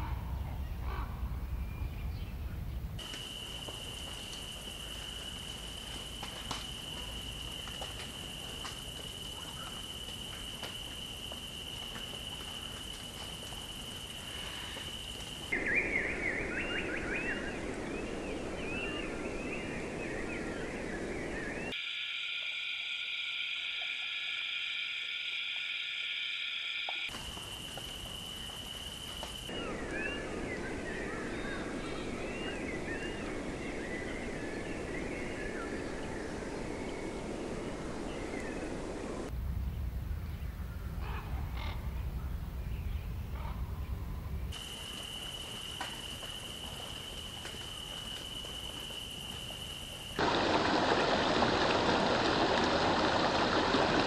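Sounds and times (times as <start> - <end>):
steady hiss: 3.0 - 40.3, 44.1 - 54.0.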